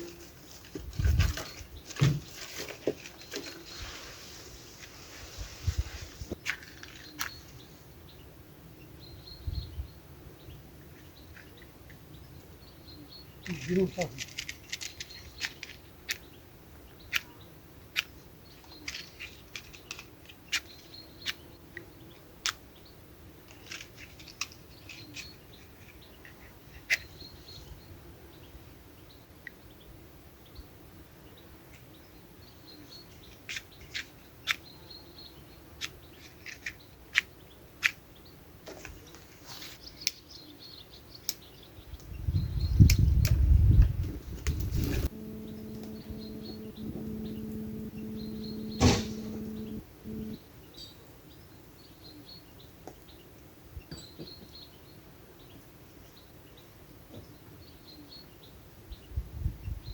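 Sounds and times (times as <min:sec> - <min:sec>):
small birds chirping: 0:00.0 - 0:04.2, 0:05.7 - 0:59.9.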